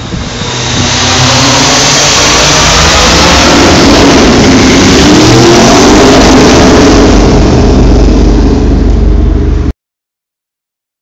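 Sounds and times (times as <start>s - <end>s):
motorcycle passing in tunnel: 0.0s - 9.7s.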